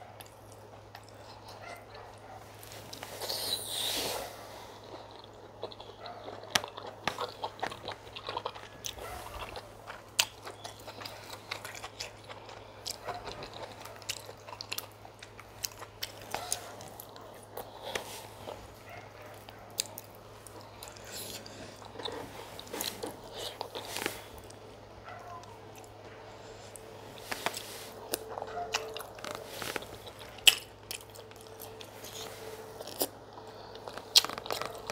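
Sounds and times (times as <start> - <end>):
person chewing and biting: 4.8 - 24.7, 25.7 - 34.9.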